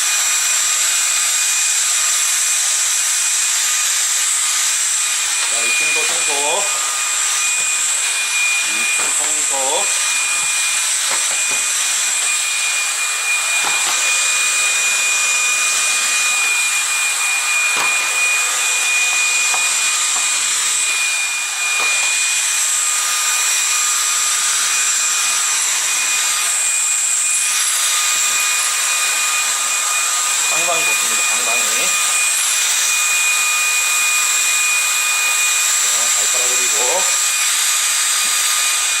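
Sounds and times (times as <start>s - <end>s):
stick vacuum running: 2.5s - 39.0s.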